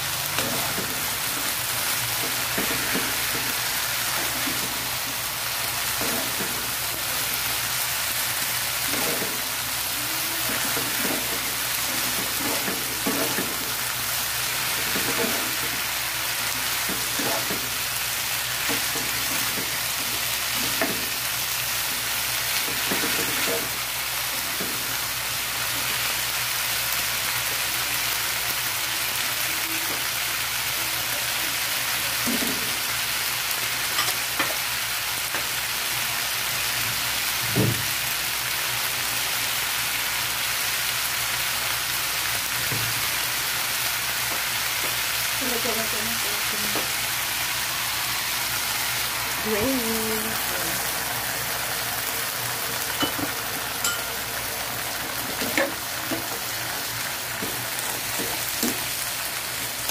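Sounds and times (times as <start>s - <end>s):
food sizzling in a frying pan: 0.0s - 59.9s.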